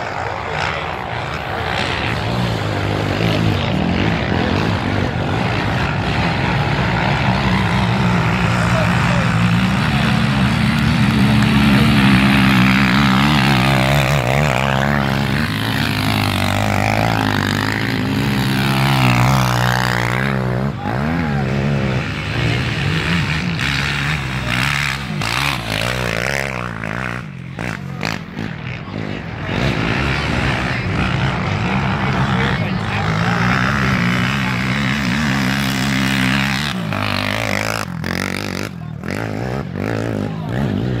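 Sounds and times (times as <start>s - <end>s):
quad engines revving: 0.0s - 41.0s.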